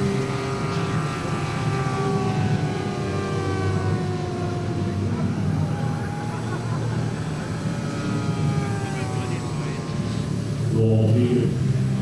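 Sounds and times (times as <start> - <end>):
propeller drone: 0.0 - 12.0
turbine whine: 0.0 - 12.0.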